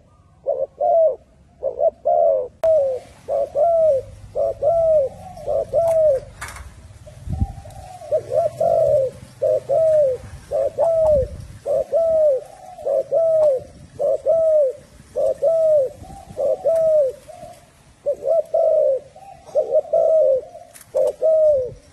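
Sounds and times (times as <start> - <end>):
dove cooing: 0.0 - 21.9.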